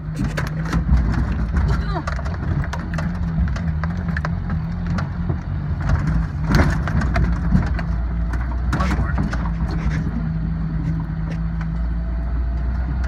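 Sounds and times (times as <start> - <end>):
engine drone inside vehicle: 0.0 - 13.0
knocks and rattles: 0.0 - 13.0.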